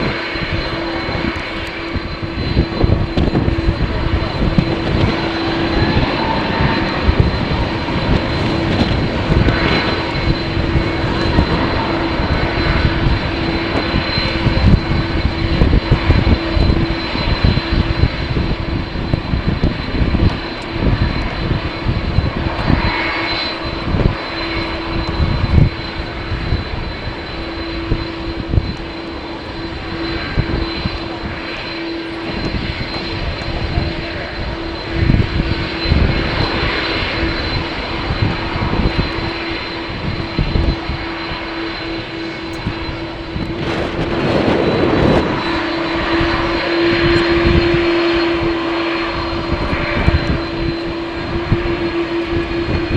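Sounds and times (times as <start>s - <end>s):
jet engines whining: 0.0s - 52.9s
wind buffeting microphone: 0.0s - 52.9s.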